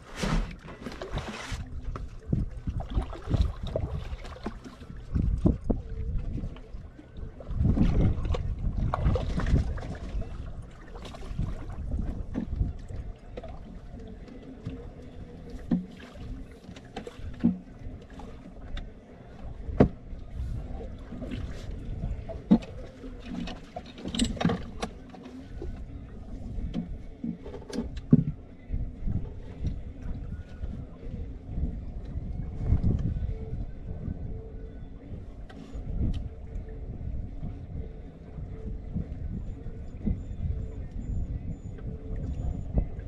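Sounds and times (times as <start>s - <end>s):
wind and water rumble: 0.0s - 43.0s.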